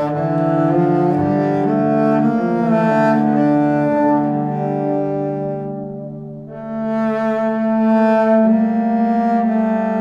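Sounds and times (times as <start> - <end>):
low bowed string notes: 0.0 - 10.0.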